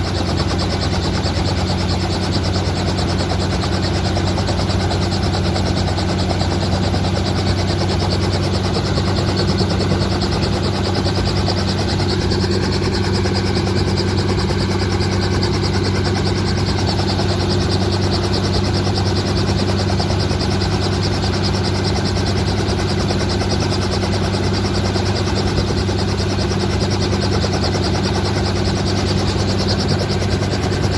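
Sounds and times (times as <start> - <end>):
helicopter running: 0.0 - 30.9.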